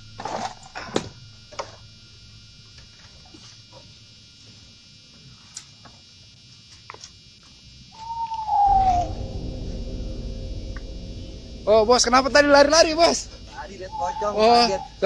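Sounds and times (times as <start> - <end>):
faint buzzing hum: 0.0 - 15.0.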